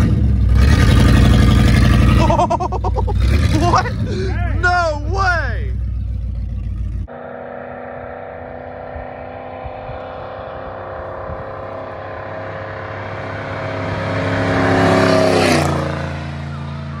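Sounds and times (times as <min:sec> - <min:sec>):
pickup truck exhaust drone passing: 0:00.0 - 0:17.0.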